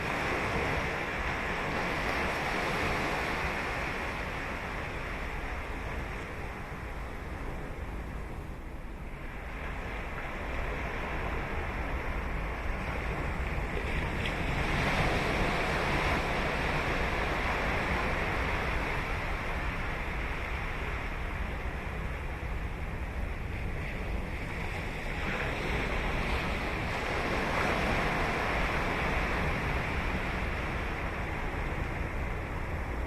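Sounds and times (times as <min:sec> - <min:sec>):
ocean waves breaking: 0:00.0 - 0:08.0, 0:09.2 - 0:33.0
wind rumble on microphone: 0:00.0 - 0:33.0.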